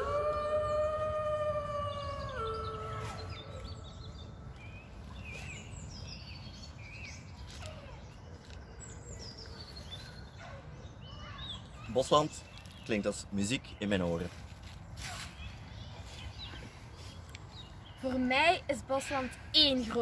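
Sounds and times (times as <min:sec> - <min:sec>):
birds chirping: 0:00.0 - 0:20.0
outdoor background noise: 0:00.0 - 0:20.0.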